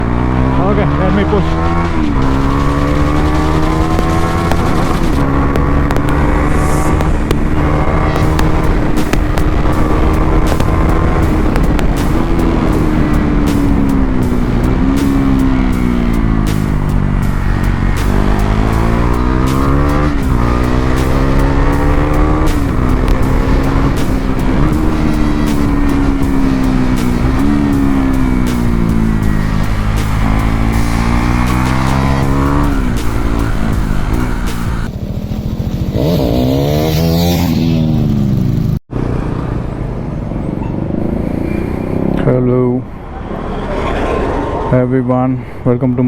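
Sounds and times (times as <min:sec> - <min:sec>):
motorcycle engine accelerating: 0:00.0 - 0:44.8.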